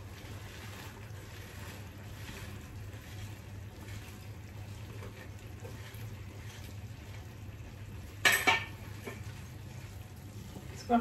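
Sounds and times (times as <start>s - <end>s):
kitchen hum and hiss: 0.0s - 11.0s.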